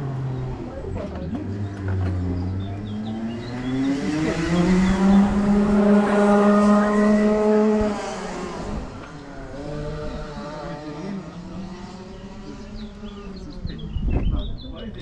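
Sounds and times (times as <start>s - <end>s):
kart engine revving: 0.0s - 13.9s.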